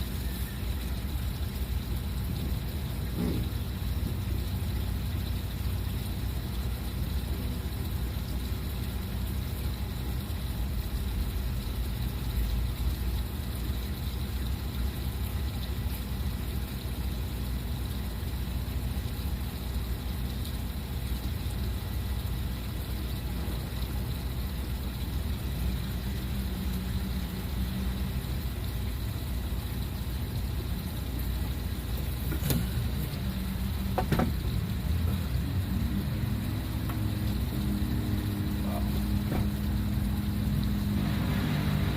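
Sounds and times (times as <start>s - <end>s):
motor running with low rumble: 0.0s - 41.9s.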